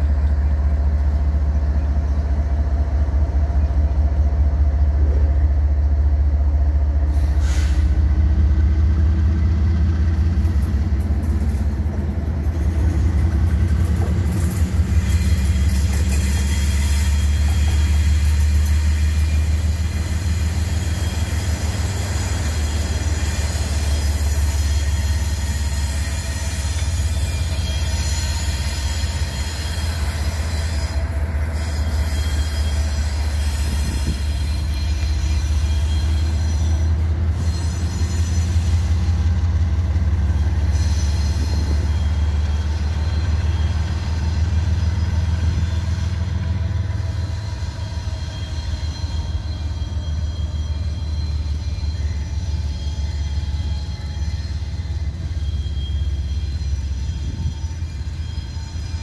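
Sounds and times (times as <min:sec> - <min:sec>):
low train rumble: 0:00.0 - 0:59.0
train wheels squealing on rails: 0:00.0 - 0:59.0.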